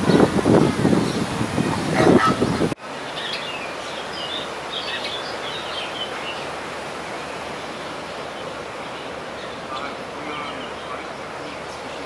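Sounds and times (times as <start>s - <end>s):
outdoor background noise: 0.0s - 12.0s
small birds chirping: 1.0s - 6.6s, 7.2s - 12.0s.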